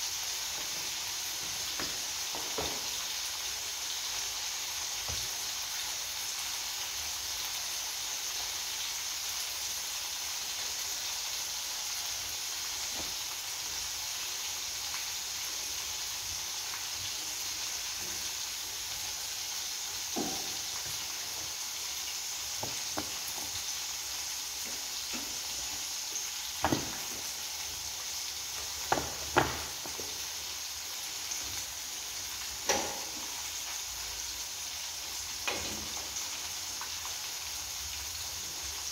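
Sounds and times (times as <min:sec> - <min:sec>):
food frying in hot oil: 0:00.0 - 0:38.9.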